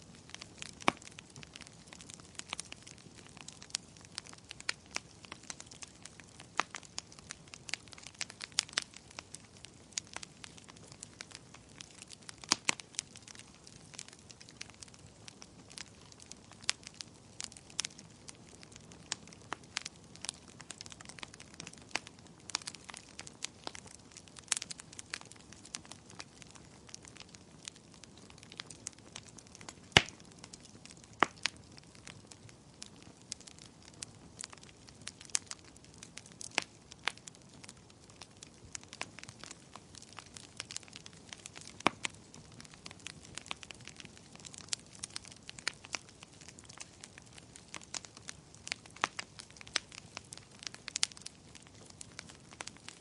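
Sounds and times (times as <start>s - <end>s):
fire crackling and popping: 0.0s - 53.0s
soft steady hiss: 0.0s - 53.0s.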